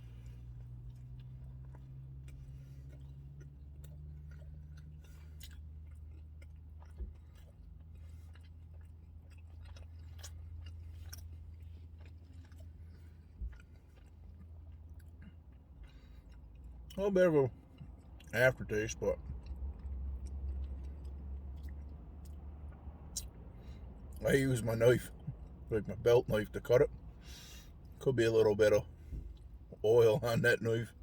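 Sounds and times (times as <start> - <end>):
man chewing food: 0.0 - 18.3, 18.9 - 24.2, 25.0 - 25.7, 26.9 - 29.8
steady low hum: 0.0 - 31.0.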